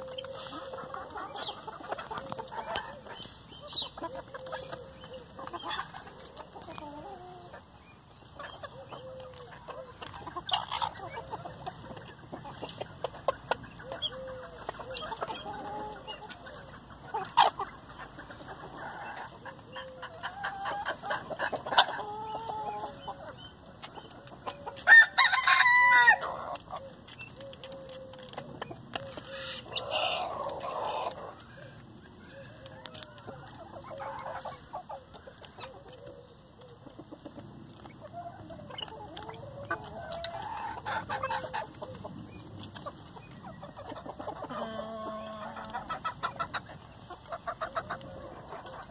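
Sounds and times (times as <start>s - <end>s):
chickens clucking: 0.0s - 48.9s.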